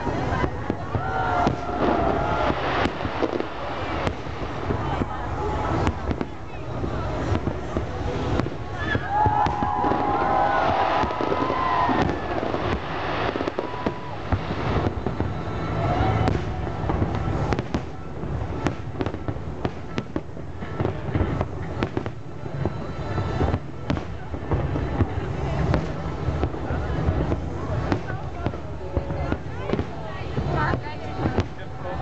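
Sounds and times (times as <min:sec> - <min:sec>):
firework bangs and crackles: 0:00.0 - 0:32.0.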